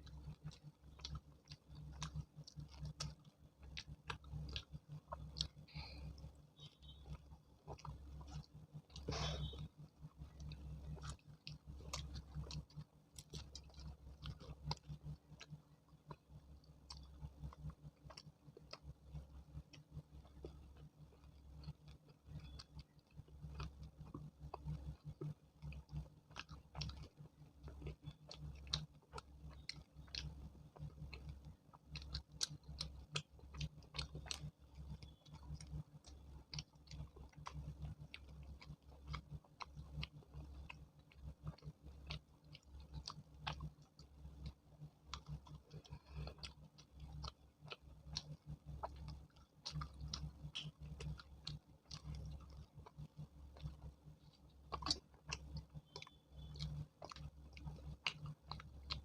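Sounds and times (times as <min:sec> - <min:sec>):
chewing and wet mouth clicks: 0:00.0 - 0:59.0
steady low hum: 0:00.0 - 0:59.0.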